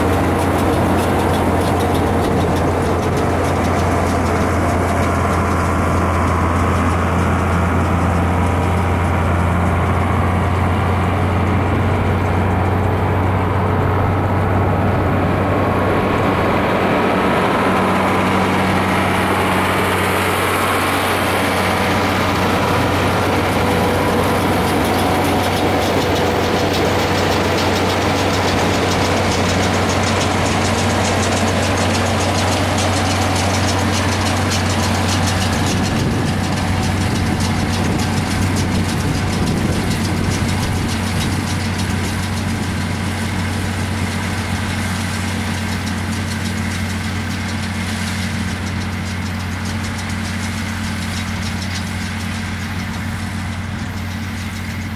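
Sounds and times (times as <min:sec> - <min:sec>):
baler mechanical clatter: 0:00.0 - 0:54.9
tractor diesel engine droning: 0:00.0 - 0:54.9.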